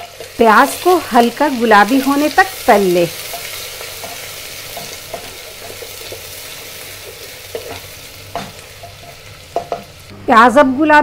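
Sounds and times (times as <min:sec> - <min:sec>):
spatula scraping and stirring: 0:00.0 - 0:10.1
onions sizzling in oil: 0:00.0 - 0:10.2.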